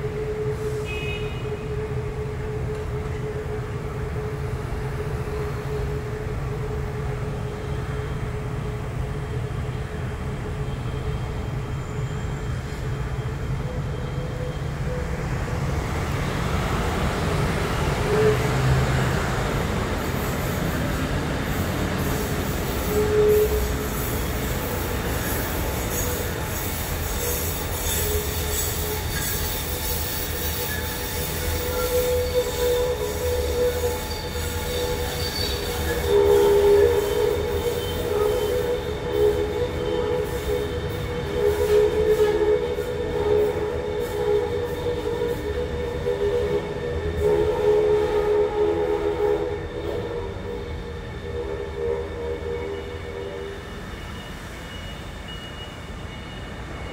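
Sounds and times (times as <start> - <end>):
train rumbling: 0.0 - 56.9
train wheels squealing: 0.0 - 56.9.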